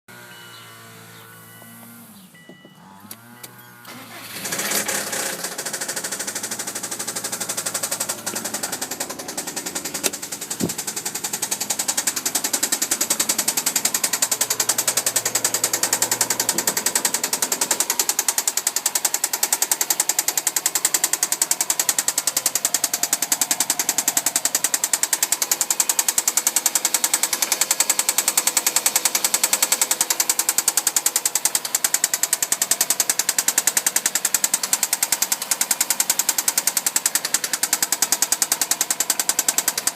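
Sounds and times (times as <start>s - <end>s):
engine knocking: 4.0s - 39.9s.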